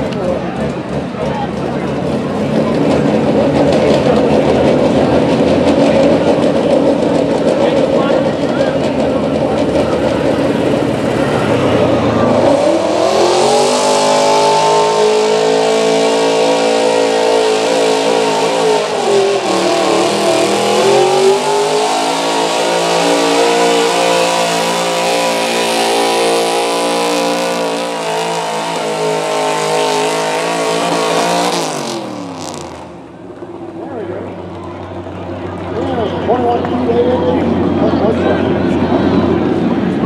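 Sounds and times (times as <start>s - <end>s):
truck engine at full throttle: 0.0s - 40.0s.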